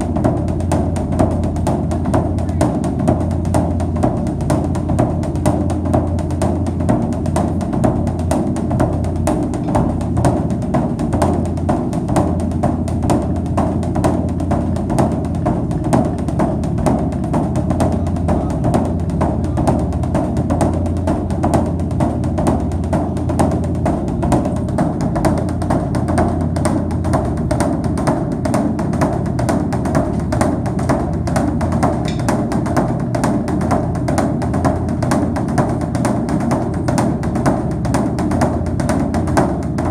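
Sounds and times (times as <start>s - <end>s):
drum and percussion music: 0.0s - 39.9s.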